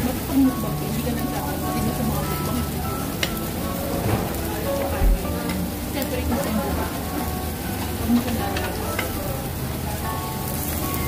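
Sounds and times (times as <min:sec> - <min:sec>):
food sizzling on a grill: 0:00.0 - 0:11.0.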